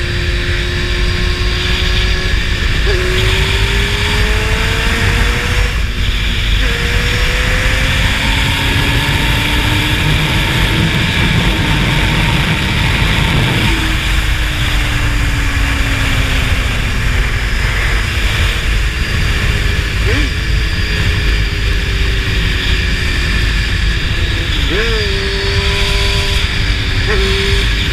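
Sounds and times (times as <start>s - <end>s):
heavy wind rush: 0.0s - 27.9s
motorcycle engine revving: 0.0s - 27.9s.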